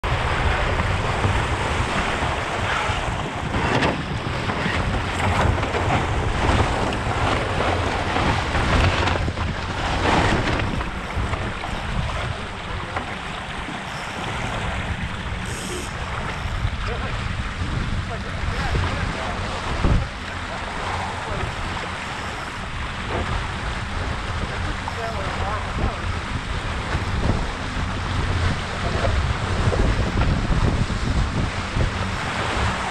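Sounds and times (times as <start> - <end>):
water splashing along boat hull: 0.0 - 32.9
wind buffeting microphone: 0.0 - 32.9.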